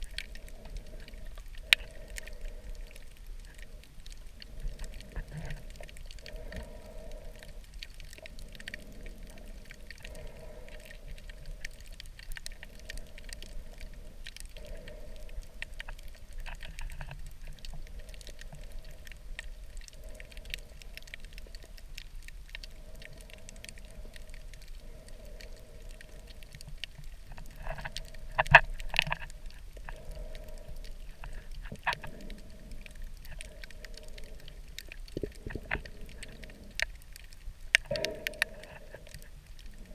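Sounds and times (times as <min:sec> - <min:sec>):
muffled underwater hum: 0:00.0 - 0:39.9
underwater crackling clicks: 0:00.0 - 0:39.9.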